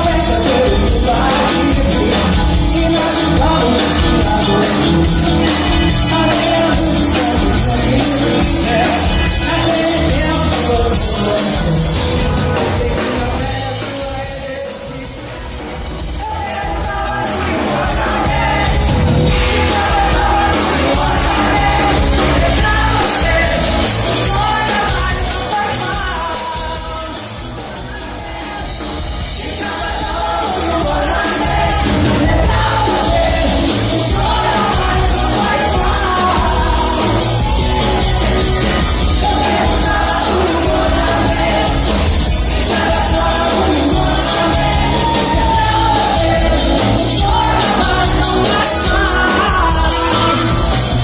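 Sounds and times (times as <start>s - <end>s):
person singing: 0.0s - 51.0s
rock band playing: 0.0s - 51.0s.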